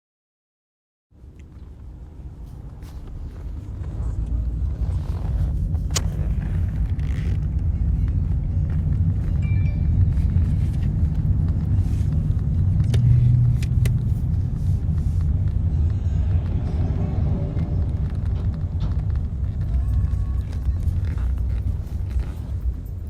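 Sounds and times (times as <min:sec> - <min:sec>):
car road and engine rumble: 0:01.2 - 0:23.0.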